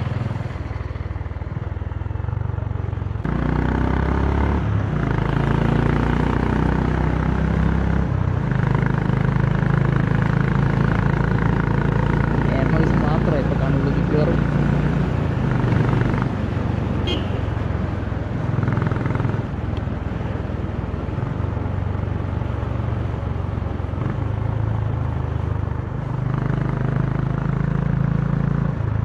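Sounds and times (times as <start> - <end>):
motorcycle engine revving: 0.0 - 20.4, 21.0 - 29.0.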